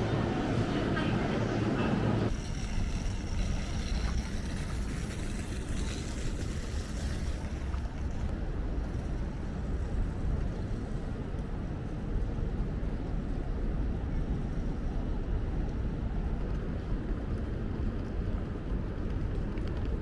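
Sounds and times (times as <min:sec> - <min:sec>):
distant traffic: 0:00.0 - 0:20.0.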